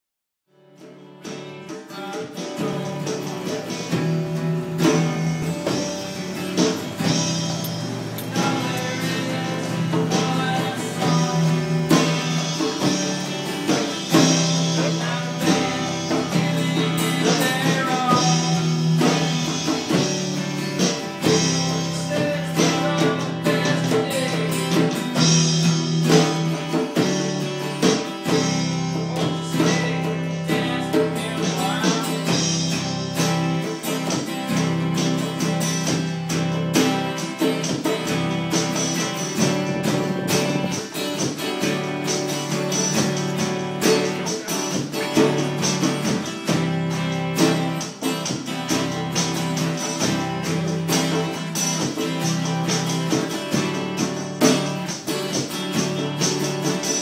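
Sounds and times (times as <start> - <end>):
guitar song with singing: 0.6 - 57.0.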